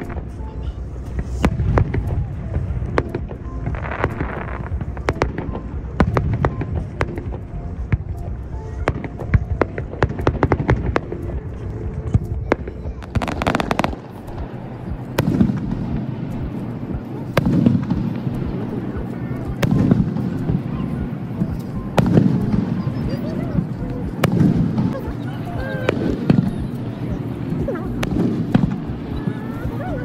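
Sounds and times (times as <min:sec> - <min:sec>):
fireworks bangs and crackles: 0:00.0 - 0:30.0
low rumble: 0:00.0 - 0:30.0.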